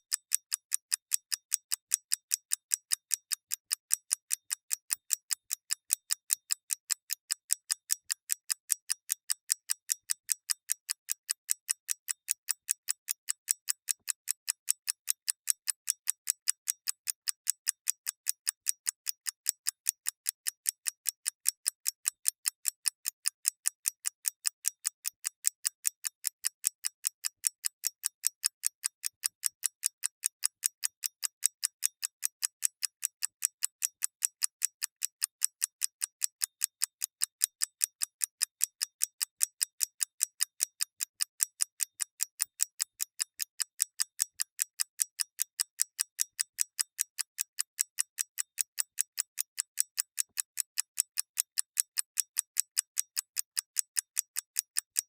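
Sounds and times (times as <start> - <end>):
clock ticking: 0.1 - 55.0.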